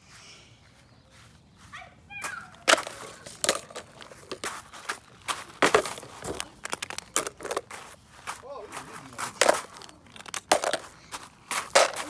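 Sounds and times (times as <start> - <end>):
footsteps crunching on gravel: 0.7 - 12.0.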